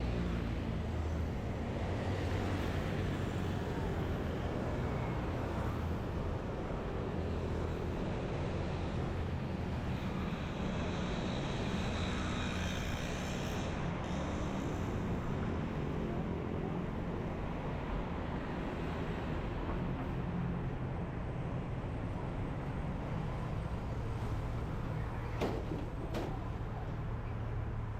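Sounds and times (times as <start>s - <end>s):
bus engine rumble: 0.0s - 27.9s
road and traffic noise: 0.0s - 27.9s.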